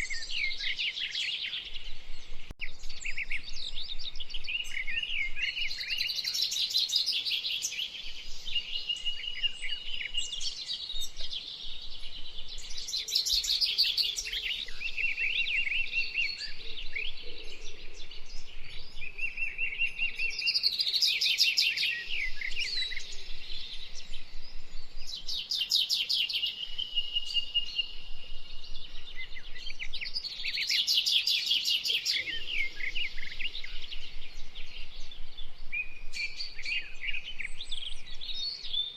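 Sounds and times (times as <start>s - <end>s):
songbird trilling and whistling: 0.0s - 38.9s.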